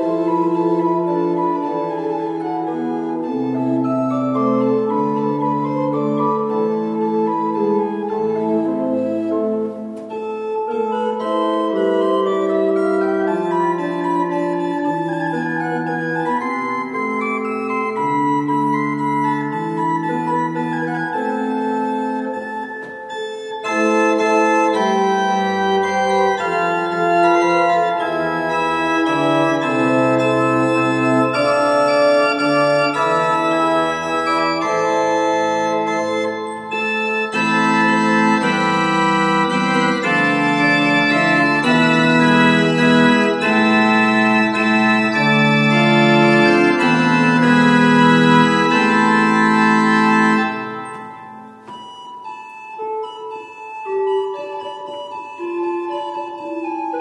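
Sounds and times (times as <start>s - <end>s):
pipe organ playing held chords: 0.0s - 57.0s.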